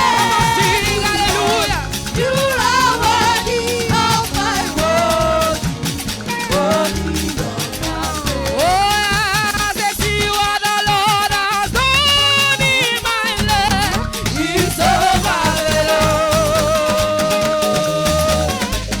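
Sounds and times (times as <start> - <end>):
percussion and shakers: 0.0 - 19.0
praise band playing upbeat music: 0.0 - 19.0.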